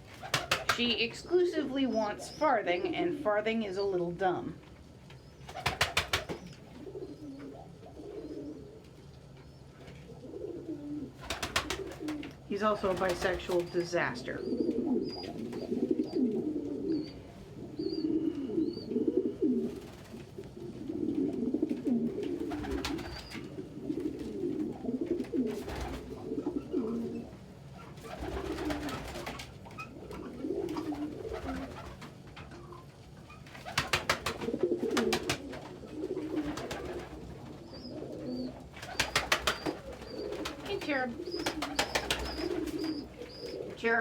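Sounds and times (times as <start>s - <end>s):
pigeons cooing: 0.0s - 4.4s, 5.1s - 44.0s.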